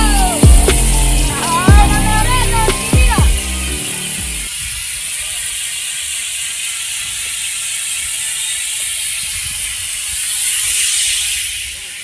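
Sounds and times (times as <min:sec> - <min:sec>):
bicycle freehub ratchet buzzing: 0:00.0 - 0:12.0.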